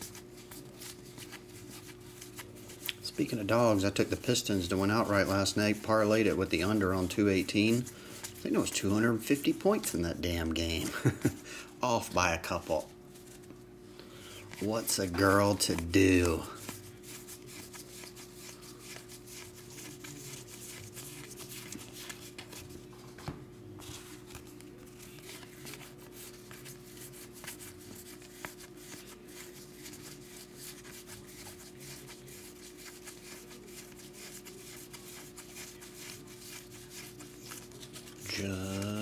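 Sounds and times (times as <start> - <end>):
cards rubbing and clicking: 0.0 - 9.5, 14.5 - 22.8, 23.8 - 39.0.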